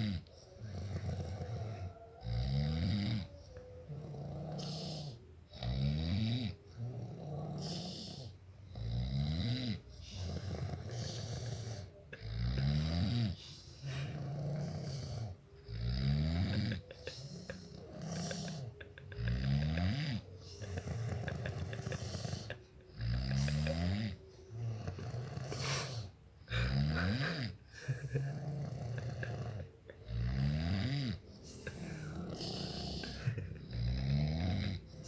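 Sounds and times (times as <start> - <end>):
man snoring: 0.0 - 35.0.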